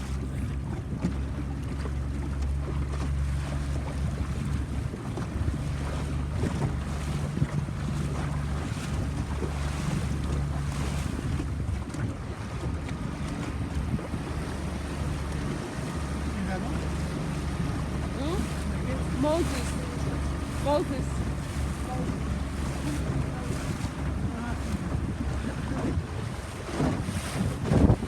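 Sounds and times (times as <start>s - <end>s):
boat engine humming: 0.0s - 28.0s
water splashing against hull: 0.0s - 28.0s
wind buffeting microphone: 0.0s - 28.0s.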